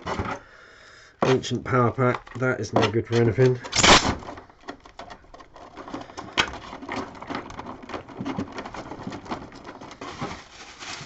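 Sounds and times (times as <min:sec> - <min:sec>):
plastic parts clicking and rattling: 0:01.2 - 0:11.0.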